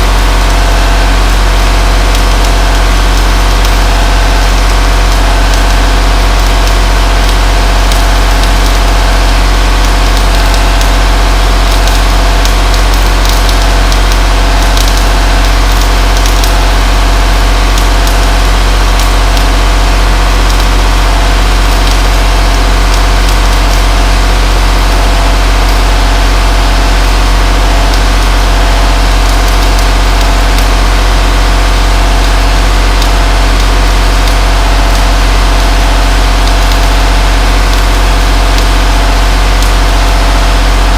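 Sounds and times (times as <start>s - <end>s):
welding arc crackling: 0.0s - 40.9s
welding machine hum: 0.0s - 40.9s.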